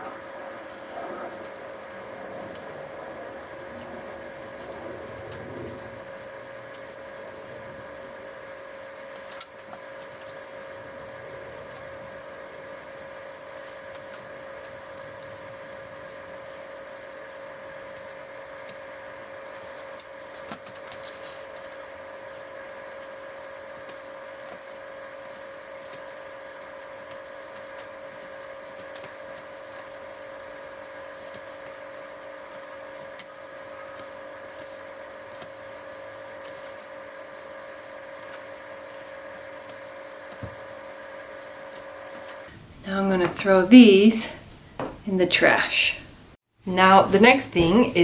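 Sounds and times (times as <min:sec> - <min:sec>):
steady hum of unchanging tones: 0:00.0 - 0:48.0.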